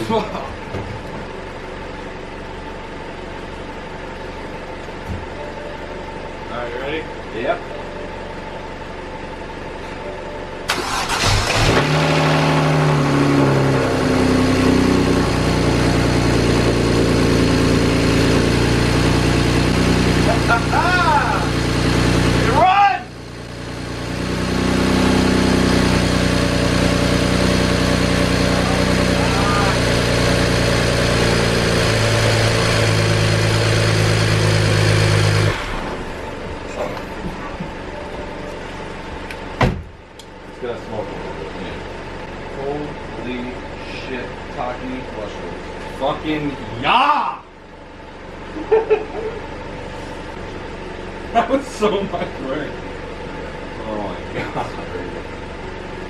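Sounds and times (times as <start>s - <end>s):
car engine starting and idling: 0.0s - 56.0s.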